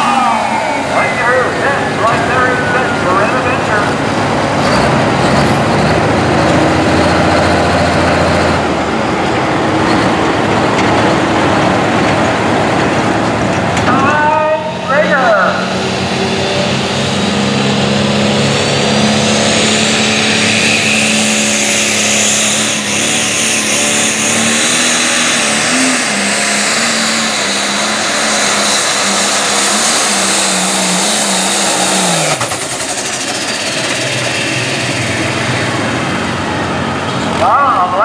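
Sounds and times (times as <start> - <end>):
diesel engine running flat out: 0.0 - 38.0
high turbo whine: 0.0 - 38.0.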